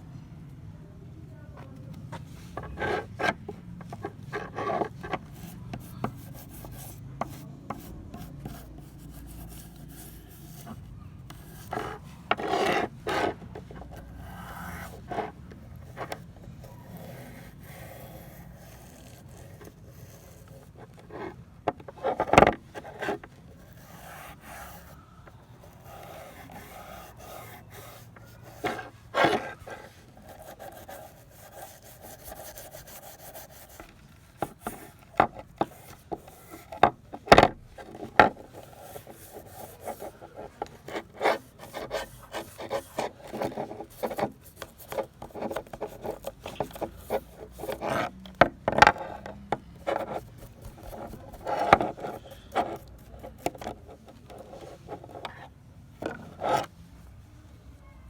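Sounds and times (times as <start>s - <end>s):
rubbing and scraping on metal: 2.1s - 56.8s.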